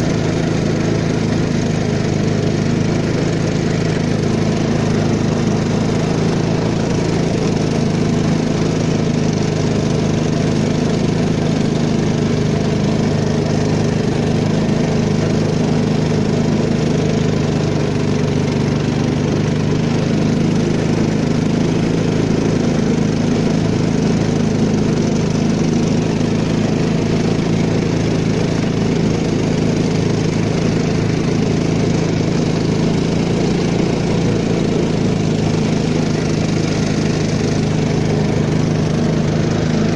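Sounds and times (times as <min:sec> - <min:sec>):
small boat motor running: 0:00.0 - 0:39.9
water rushing along hull: 0:00.0 - 0:39.9.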